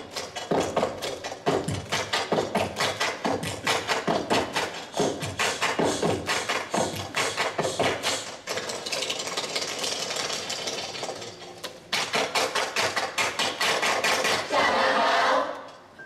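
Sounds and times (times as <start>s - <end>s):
rapid percussive knocking: 0.0s - 11.2s, 11.9s - 14.5s.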